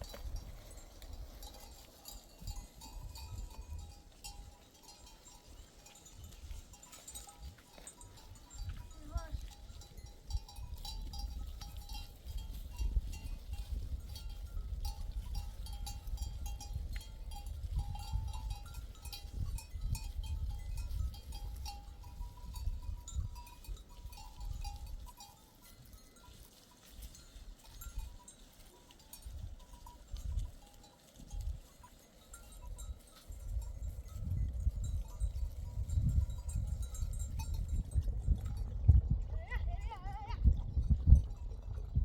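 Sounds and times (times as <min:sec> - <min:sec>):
neck bells clinking: 0:00.0 - 0:39.2.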